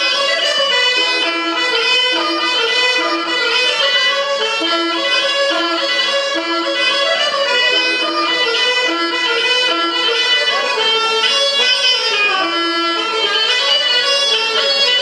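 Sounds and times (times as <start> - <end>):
fiddle and bagpipe folk dance music: 0.0 - 15.0.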